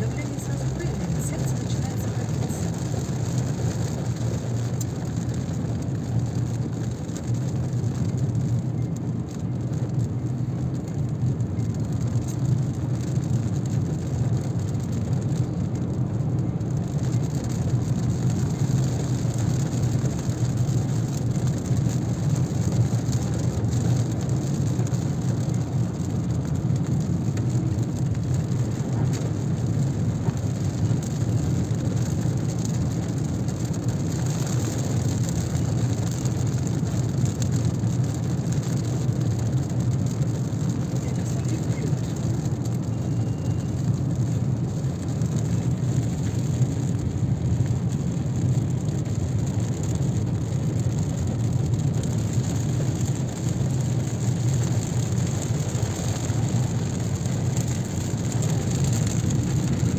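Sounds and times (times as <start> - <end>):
car rumbling on road: 0.0 - 59.9
rain hitting car body: 0.0 - 59.9.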